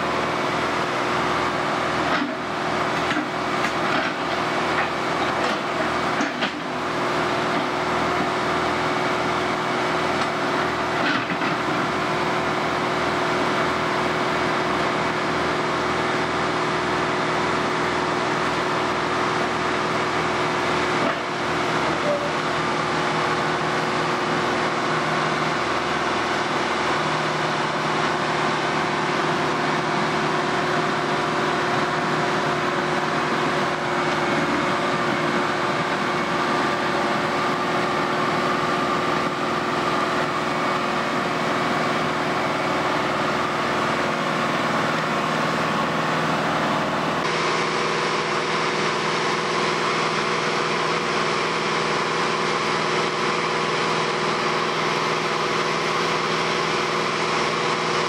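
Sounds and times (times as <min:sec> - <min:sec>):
diesel excavator engine running: 0:00.0 - 0:58.0.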